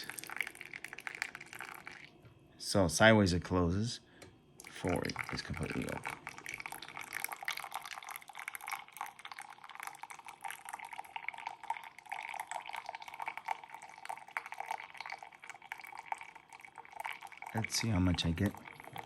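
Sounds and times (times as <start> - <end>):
coffee dripping into a mug: 0.0 - 2.2, 4.6 - 19.0.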